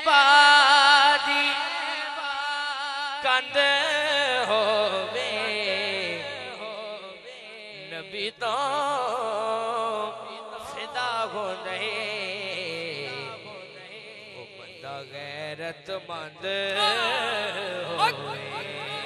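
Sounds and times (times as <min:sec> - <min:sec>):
person singing through a microphone: 0:00.0 - 0:19.0.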